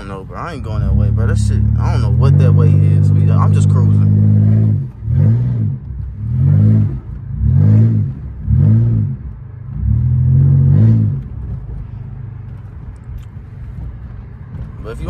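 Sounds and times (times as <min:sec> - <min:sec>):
car engine revving: 0:00.0 - 0:15.0
engine steady drone: 0:00.0 - 0:15.0.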